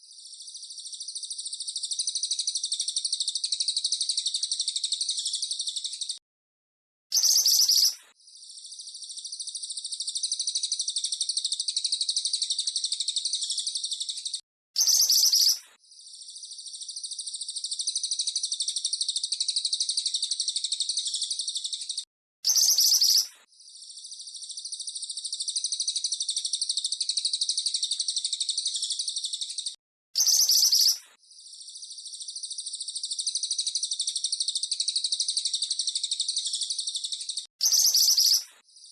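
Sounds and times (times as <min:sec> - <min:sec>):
songbird chattering rattle: 0:00.2 - 0:06.2, 0:07.1 - 0:38.9.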